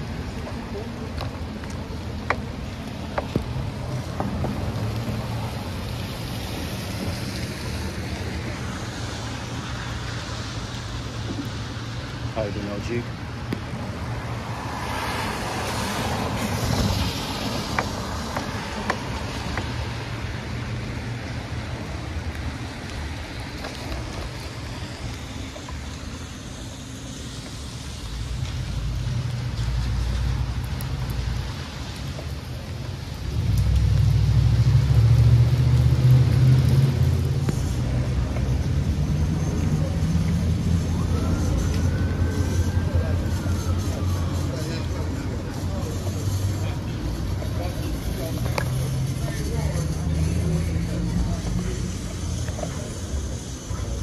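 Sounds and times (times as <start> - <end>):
tyres hissing on wet road: 0.0 - 54.0.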